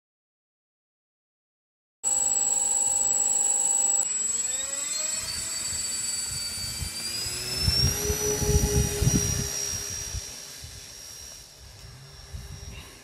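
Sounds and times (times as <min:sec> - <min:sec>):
electric motors and propellers whining: 0:02.1 - 0:13.0.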